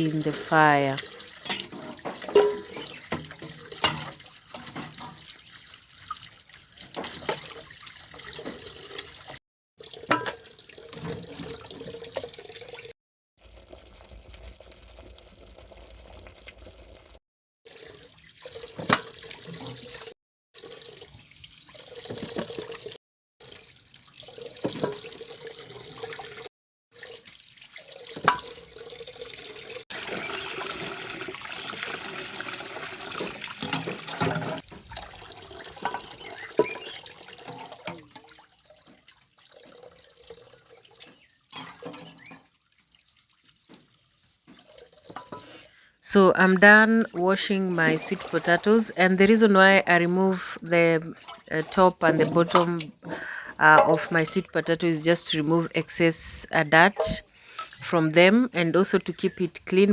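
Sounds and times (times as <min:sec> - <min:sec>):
water splashing and sloshing: 0:00.0 - 0:13.0, 0:15.1 - 0:55.7, 0:56.4 - 0:59.0.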